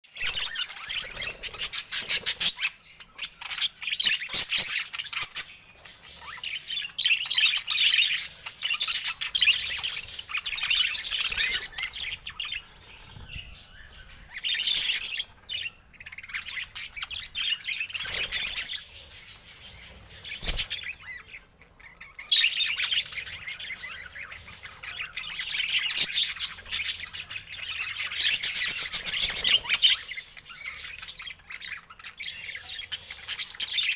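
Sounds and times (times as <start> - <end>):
budgerigars chirping and warbling: 0.1 - 33.9.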